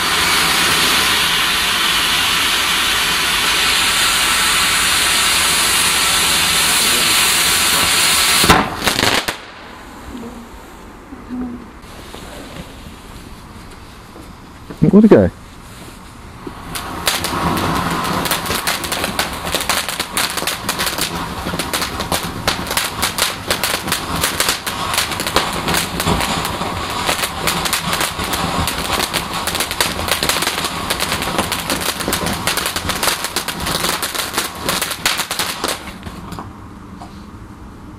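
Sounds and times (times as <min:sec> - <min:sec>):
firework crackling: 0:00.0 - 0:11.0, 0:11.8 - 0:36.7.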